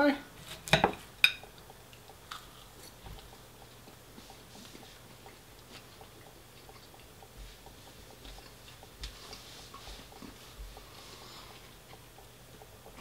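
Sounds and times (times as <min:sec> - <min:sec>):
mouth chewing sounds: 0:01.4 - 0:13.0.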